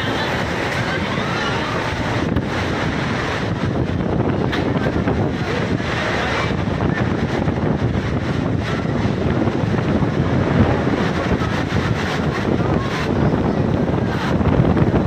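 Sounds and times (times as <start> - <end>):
strong wind gusting: 0.0 - 15.0.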